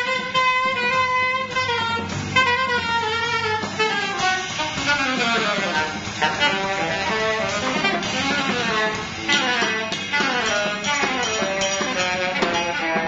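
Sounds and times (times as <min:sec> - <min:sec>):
bass keyboard and drums: 0:00.0 - 0:13.0
electric guitar: 0:00.0 - 0:13.0
saxophone playing: 0:00.0 - 0:13.0.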